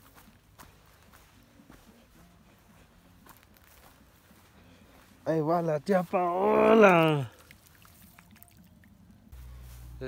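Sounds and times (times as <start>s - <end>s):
faint footsteps on dry grass: 0.0s - 10.0s.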